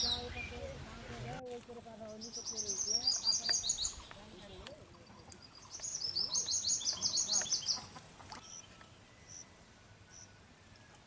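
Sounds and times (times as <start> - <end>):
songbird trilling: 0.0 - 0.8, 1.8 - 11.0.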